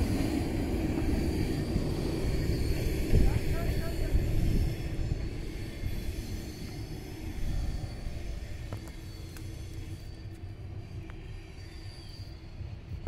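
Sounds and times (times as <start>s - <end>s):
train passing on track: 0.0s - 13.0s.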